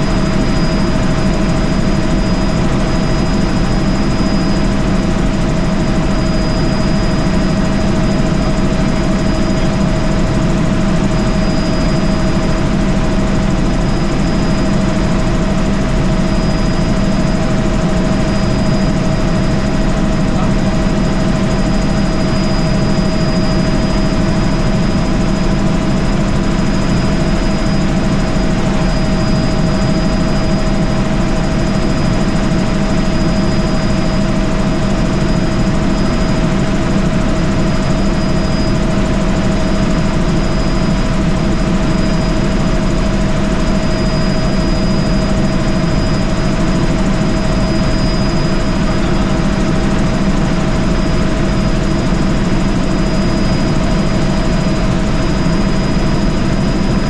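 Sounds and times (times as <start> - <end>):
helicopter engine and rotor drone: 0.0 - 57.0
high whine: 0.0 - 57.0.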